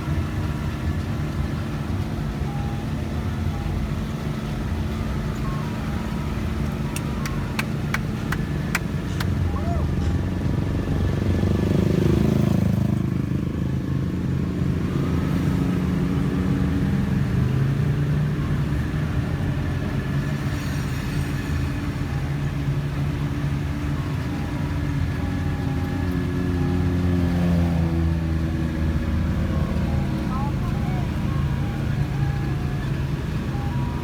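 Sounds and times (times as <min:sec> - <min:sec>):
utility vehicle engine driving: 0:00.0 - 0:34.0.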